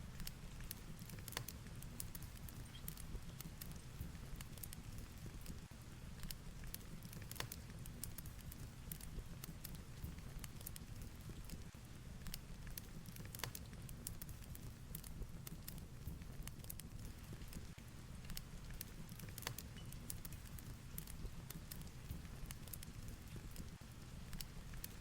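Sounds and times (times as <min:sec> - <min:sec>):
fireplace crackling and popping: 0:00.0 - 0:25.0.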